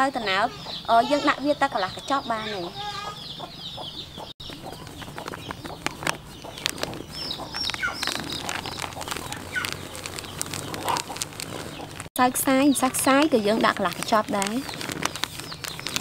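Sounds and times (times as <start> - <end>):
small birds chirping: 0.0 - 16.0
chickens clucking: 0.2 - 16.0.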